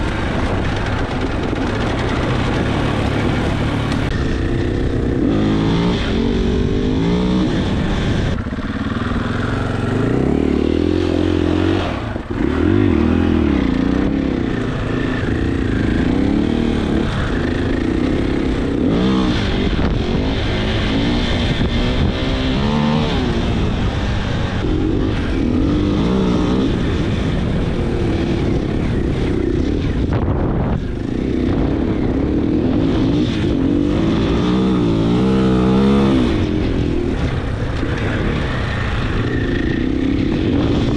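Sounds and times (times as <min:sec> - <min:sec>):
dirt bike engine revving: 0:00.0 - 0:40.9
wind noise on microphone: 0:00.0 - 0:40.9.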